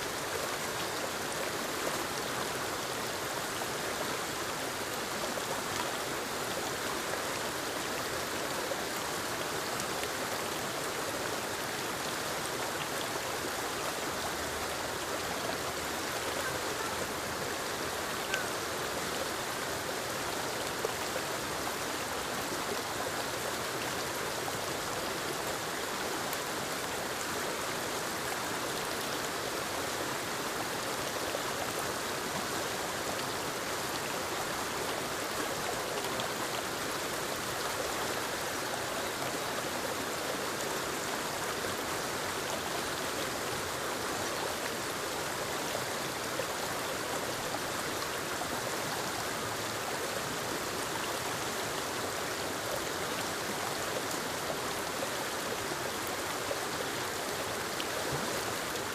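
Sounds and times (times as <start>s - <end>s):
faint water drips and splashes: 0.0s - 58.9s
waterfall rushing over rocks: 0.0s - 58.9s.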